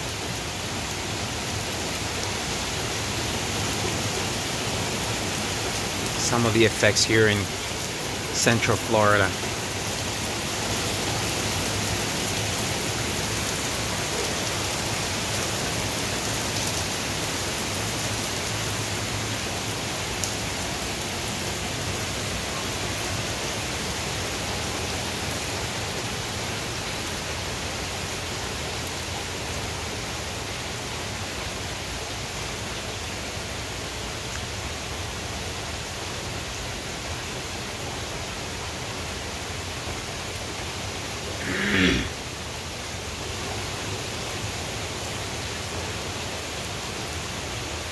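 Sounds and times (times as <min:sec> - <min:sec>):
rain on lawn and trees: 0:00.0 - 0:47.9.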